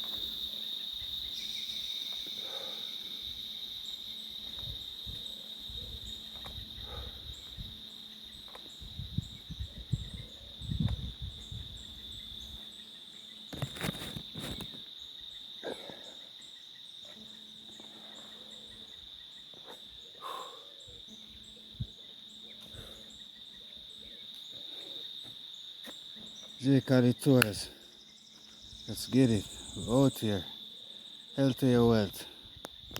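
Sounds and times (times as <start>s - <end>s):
insect chorus droning: 0.0s - 32.9s.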